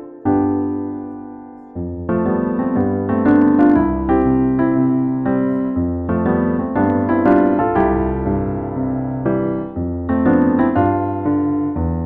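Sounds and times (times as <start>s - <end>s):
upbeat solo piano music: 0.0s - 12.0s.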